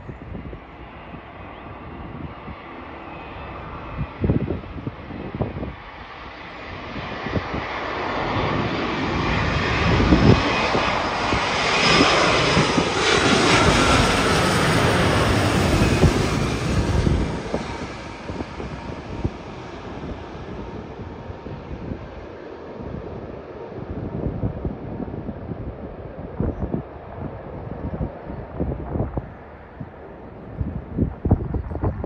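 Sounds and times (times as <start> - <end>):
jet airliner passing overhead: 0.0 - 32.0
jet engine whine: 0.0 - 32.0.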